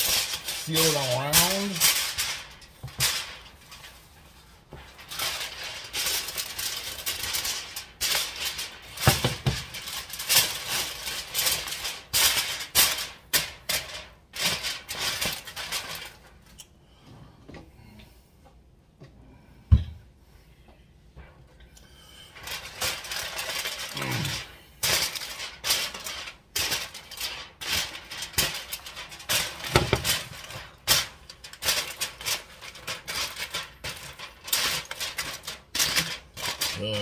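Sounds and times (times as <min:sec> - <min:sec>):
aluminium foil crinkling: 0:00.0 - 0:16.7, 0:22.2 - 0:37.0.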